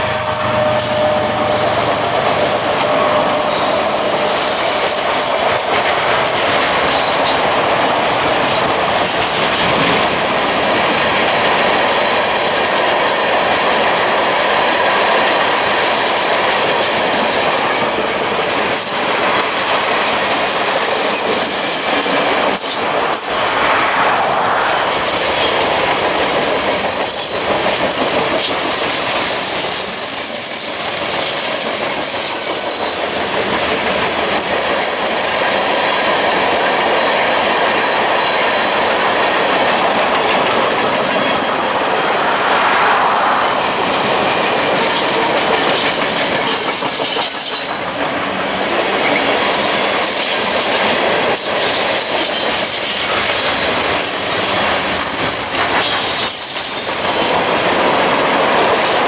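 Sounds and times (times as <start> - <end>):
train rumbling by: 0.0 - 59.0
wheels squealing on rails: 0.0 - 59.0.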